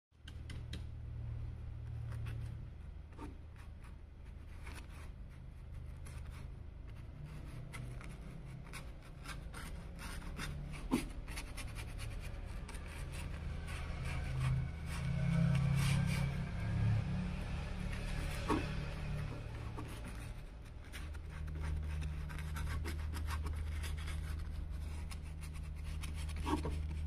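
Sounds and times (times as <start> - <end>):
paintbrush scratching on canvas: 3.2 - 27.0.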